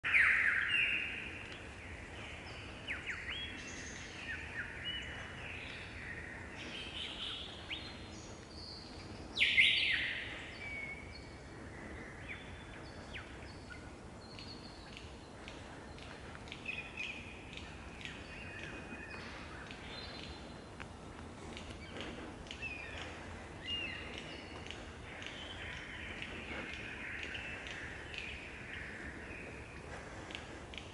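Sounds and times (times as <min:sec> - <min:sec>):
lyrebird singing: 0:00.0 - 0:30.9.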